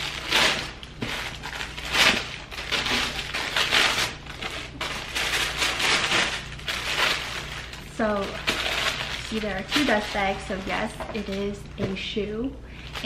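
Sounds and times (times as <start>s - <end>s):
tissue paper crinkling: 0.0s - 11.6s.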